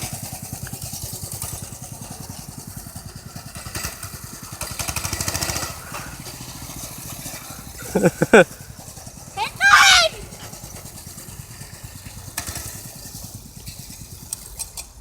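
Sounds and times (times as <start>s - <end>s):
mini bike engine puttering: 0.0s - 15.0s.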